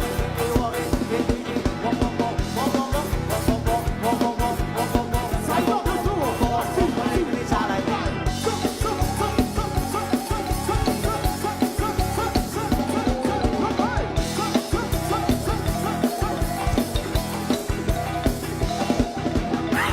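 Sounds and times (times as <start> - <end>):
song with drums and guitar: 0.0 - 19.9.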